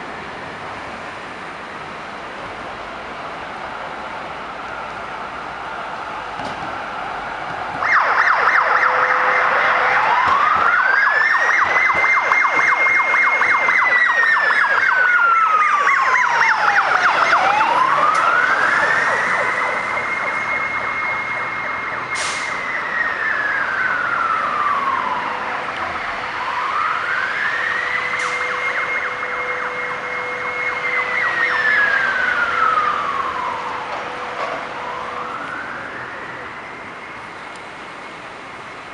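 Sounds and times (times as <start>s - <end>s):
fire engine siren: 4.4s - 38.4s.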